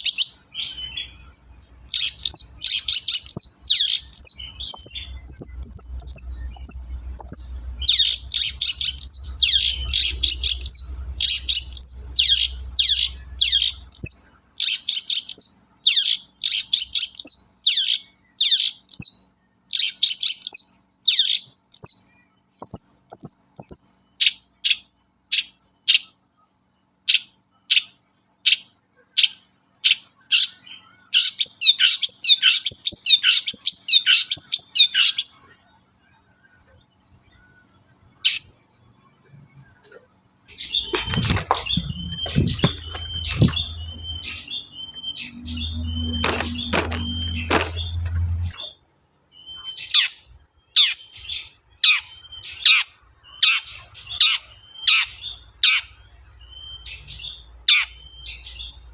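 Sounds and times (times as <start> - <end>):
bird singing harsh chattering notes: 0.0 - 35.6, 40.5 - 58.9.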